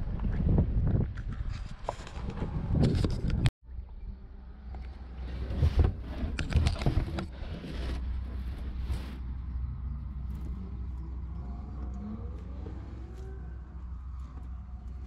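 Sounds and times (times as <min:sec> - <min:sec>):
low rumble: 0:02.1 - 0:15.0.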